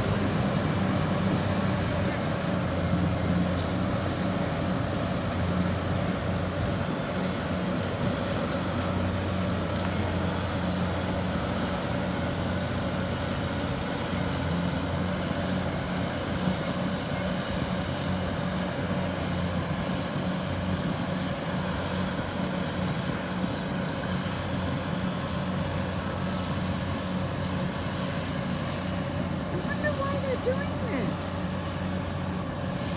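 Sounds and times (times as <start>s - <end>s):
bulldozer diesel engines droning: 0.0s - 32.9s.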